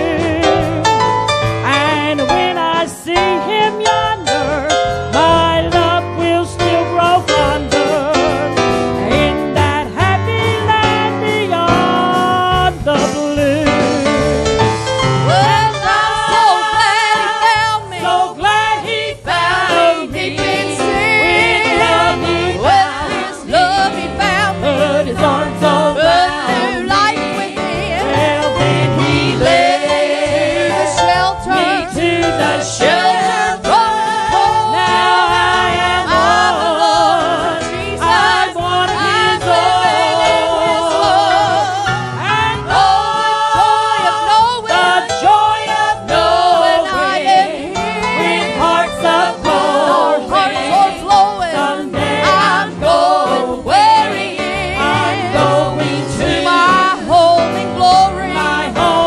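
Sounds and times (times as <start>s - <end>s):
gospel song with singing: 0.0s - 59.0s.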